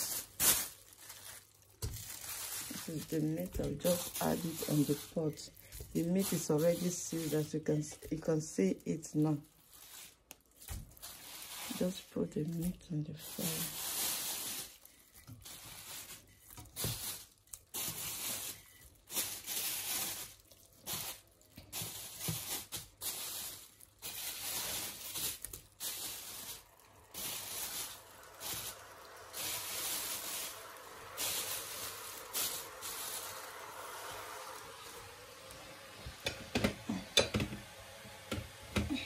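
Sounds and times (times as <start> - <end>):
plastic bag crinkling: 0.0 - 35.9.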